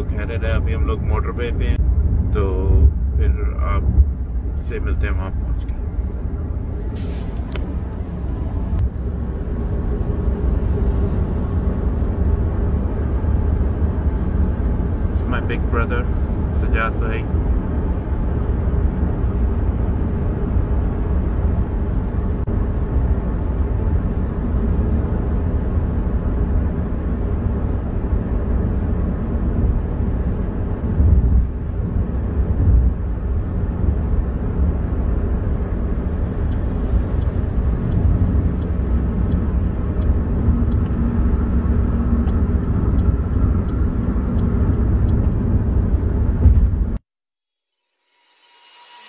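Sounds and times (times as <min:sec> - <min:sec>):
road and tyre noise in car: 0:00.0 - 0:47.1, 0:47.8 - 0:49.0.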